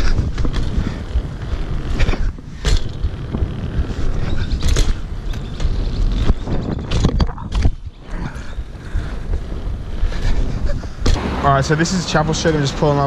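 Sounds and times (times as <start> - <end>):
bike tyres rumbling on wood: 0.0 - 11.3
wind buffeting microphone: 0.0 - 12.0.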